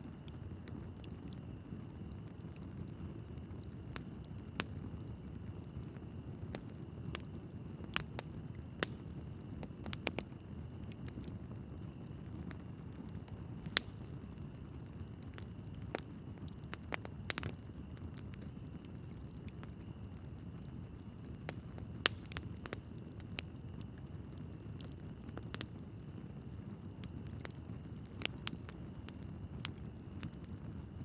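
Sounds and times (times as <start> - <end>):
logs crackling and popping: 0.0 - 31.0
low rumble of flames: 0.0 - 31.0.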